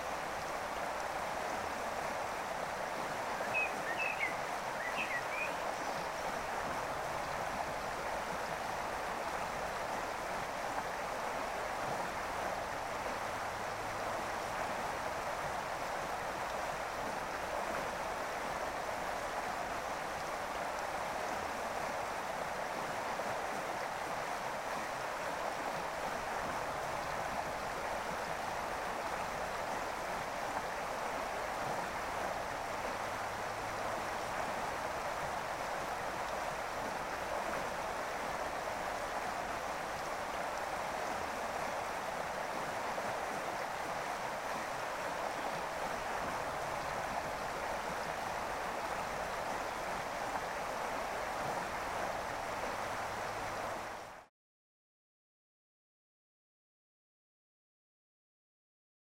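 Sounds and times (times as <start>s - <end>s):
stream water rushing: 0.0s - 54.3s.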